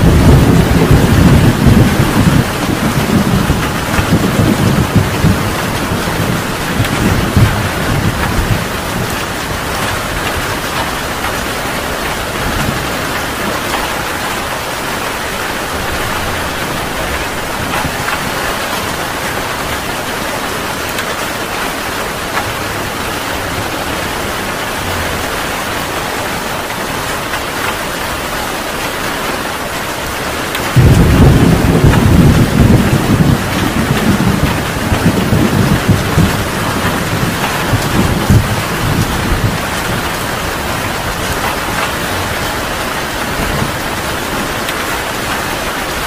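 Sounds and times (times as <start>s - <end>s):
heavy rain falling: 0.0s - 46.0s
thunder rumbling: 0.0s - 46.0s.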